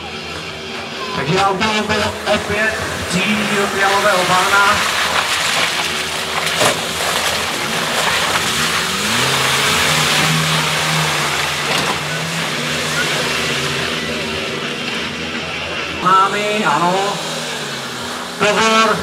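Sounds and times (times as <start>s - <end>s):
engine revving hard: 0.0s - 19.0s.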